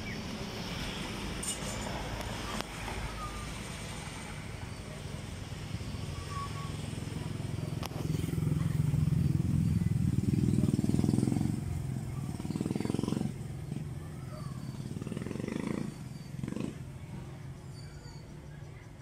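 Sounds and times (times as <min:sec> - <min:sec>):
small engine passing by: 0:00.0 - 0:19.0.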